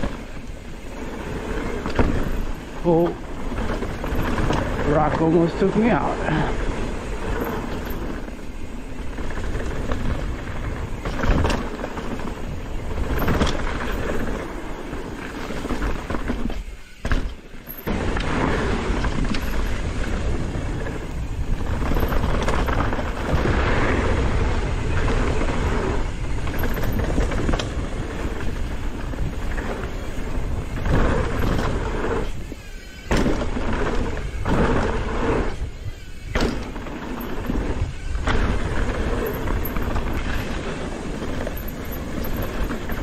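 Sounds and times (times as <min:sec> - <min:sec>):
mountain bike rumbling and rattling: 0:00.0 - 0:43.0
wind buffeting microphone: 0:00.0 - 0:43.0.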